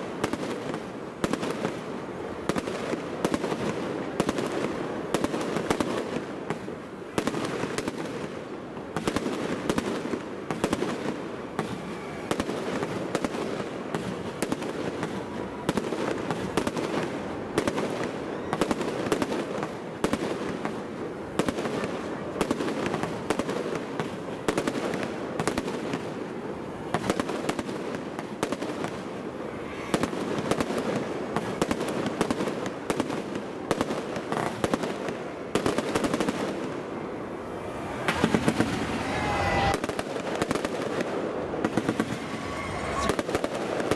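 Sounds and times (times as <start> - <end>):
fireworks bursting overhead: 0.0 - 43.9.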